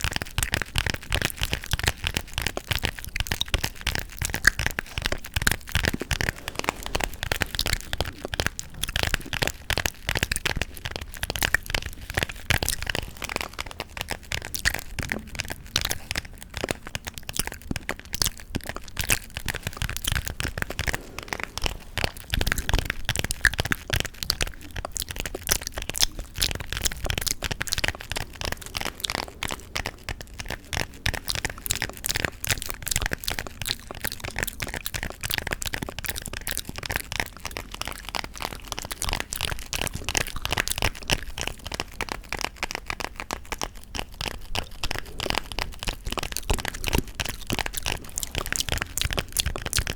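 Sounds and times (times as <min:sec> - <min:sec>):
gum chewing clicks: 0:00.0 - 0:49.9.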